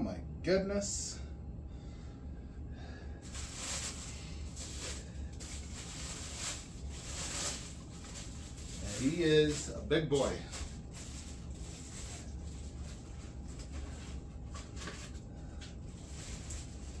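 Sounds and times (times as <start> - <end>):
low room hum: 0.0 - 17.0
packaging wrap crinkling: 3.2 - 17.0.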